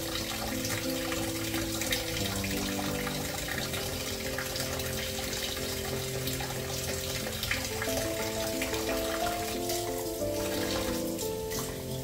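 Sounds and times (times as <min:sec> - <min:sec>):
tap running into sink: 0:00.0 - 0:12.0.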